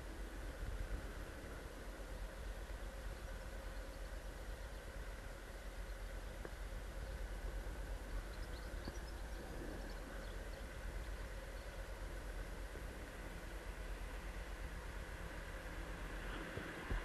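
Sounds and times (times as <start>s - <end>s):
wind rumble on microphone: 0.0s - 3.9s, 6.3s - 17.0s
road noise: 0.0s - 17.0s.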